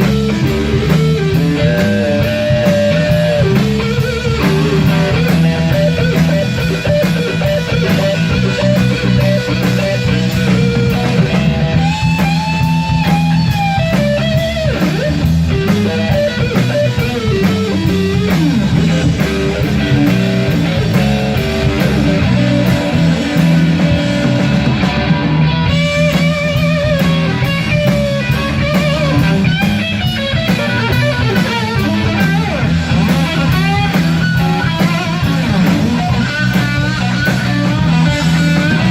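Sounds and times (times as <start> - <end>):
electric guitar lead lines: 0.0 - 38.9
rock backing with drums: 0.0 - 38.9.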